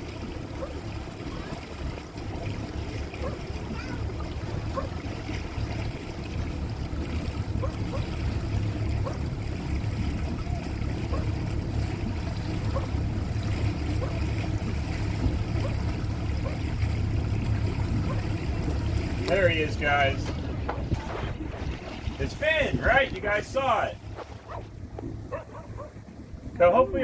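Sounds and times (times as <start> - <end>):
boat engine rumbling: 0.0 - 27.0
water noise: 0.0 - 27.0.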